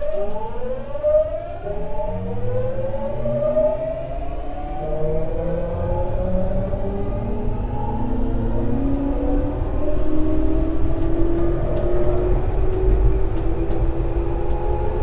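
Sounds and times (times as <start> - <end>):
train traction motors whining: 0.0 - 15.0.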